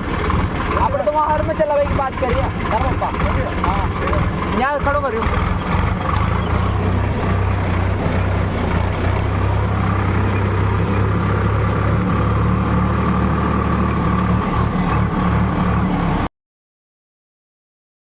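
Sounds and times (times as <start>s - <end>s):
tractor diesel engine running: 0.0s - 16.3s.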